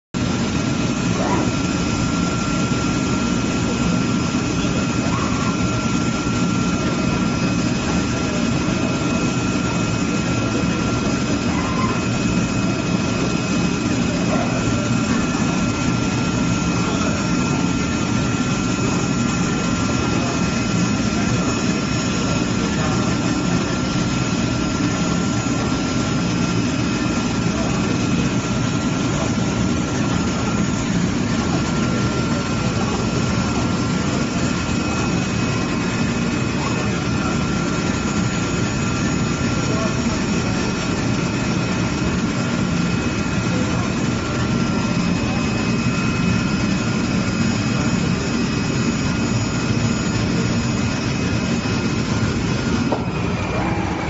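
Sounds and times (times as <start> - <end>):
cutting machine drone: 0.2 - 54.0.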